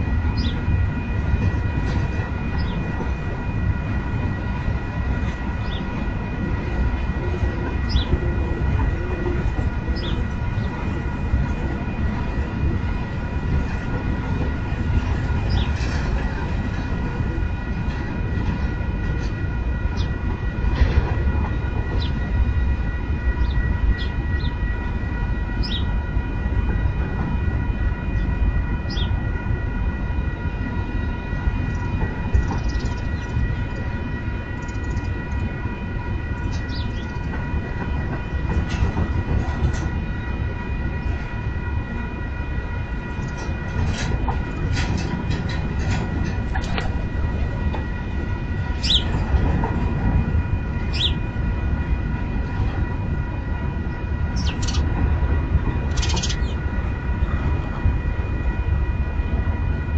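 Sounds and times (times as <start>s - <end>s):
freight train rumble: 0.0s - 59.9s.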